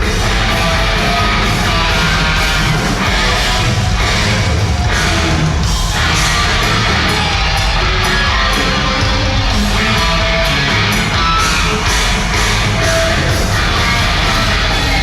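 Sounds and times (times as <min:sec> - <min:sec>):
distorted electric guitars: 0:00.0 - 0:15.0
drums: 0:00.0 - 0:15.0.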